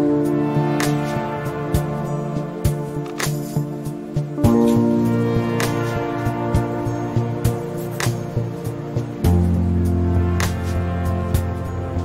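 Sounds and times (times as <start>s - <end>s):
background music with chords: 0.0s - 12.0s.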